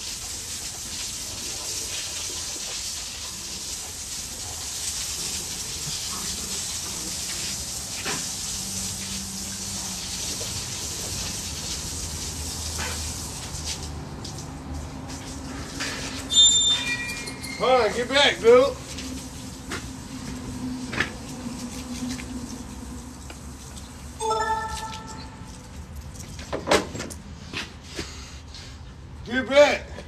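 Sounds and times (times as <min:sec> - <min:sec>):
hose water spraying on concrete: 0:00.0 - 0:26.6.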